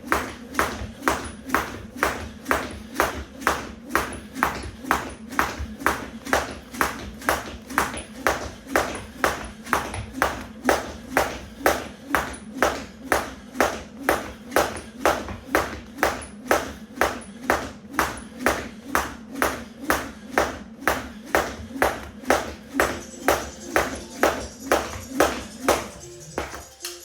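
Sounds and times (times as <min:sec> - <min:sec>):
jump rope slapping the floor: 0:00.0 - 0:27.0.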